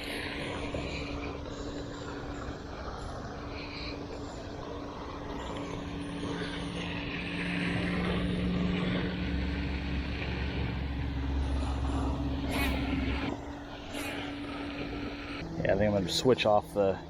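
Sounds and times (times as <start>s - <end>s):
deep hum: 0.0s - 17.0s
distant engine drone: 0.0s - 17.0s.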